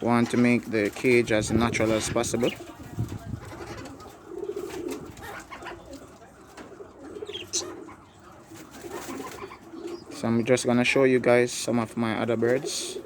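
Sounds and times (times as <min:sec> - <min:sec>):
pigeons cooing: 0:00.0 - 0:11.2, 0:11.8 - 0:13.0.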